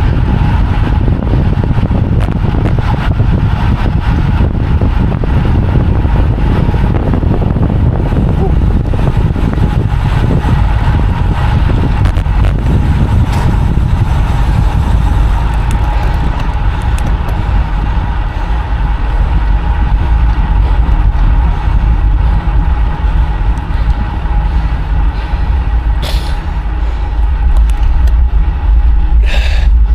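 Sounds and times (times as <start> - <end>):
wind and road noise: 0.0 - 29.9.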